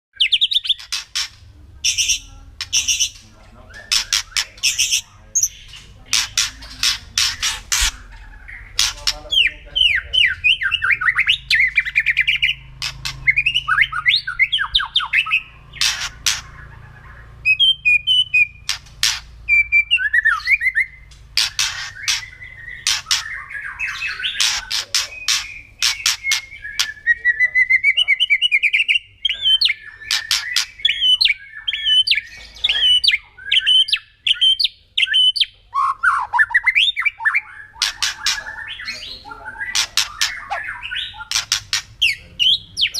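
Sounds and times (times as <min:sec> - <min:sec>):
bird calling with rattles and whistles: 0:00.2 - 0:42.9.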